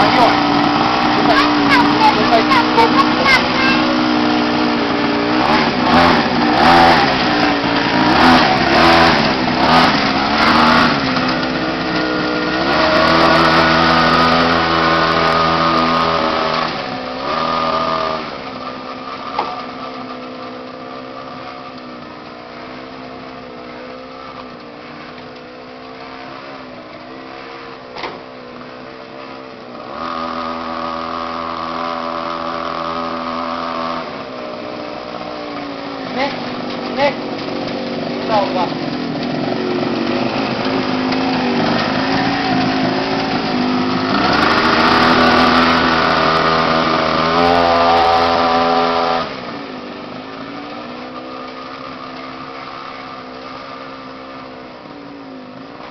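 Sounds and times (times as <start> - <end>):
small motorbike engine revving: 0.0 - 55.9.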